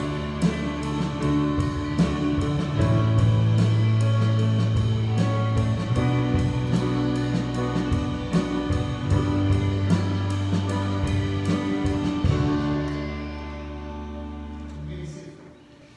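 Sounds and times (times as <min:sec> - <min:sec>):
drum kit steady beat: 0:00.0 - 0:13.3
electric guitars: 0:00.0 - 0:15.9
held low notes: 0:00.0 - 0:15.9.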